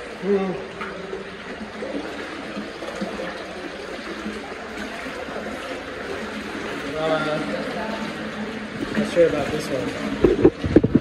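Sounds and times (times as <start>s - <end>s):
water rushing through a tunnel: 0.0s - 11.0s.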